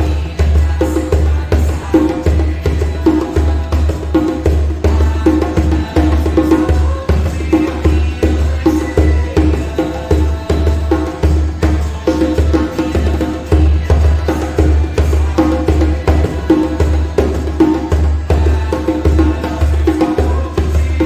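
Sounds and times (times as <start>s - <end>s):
djembe hand-drum rhythm: 0.0s - 21.0s.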